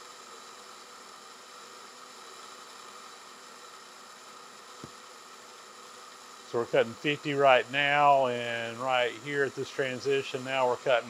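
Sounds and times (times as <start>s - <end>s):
lathe cutting with faint hiss: 0.0s - 11.0s.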